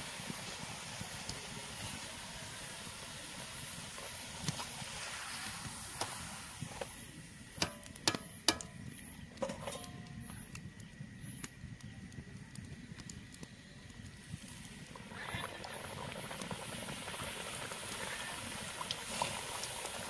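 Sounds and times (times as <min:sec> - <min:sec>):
faint crackle of fire and hot oil: 0:00.0 - 0:20.0.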